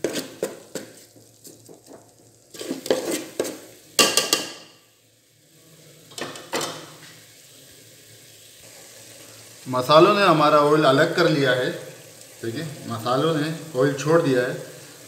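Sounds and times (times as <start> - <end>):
spices sizzling in oil: 0.0 - 15.0.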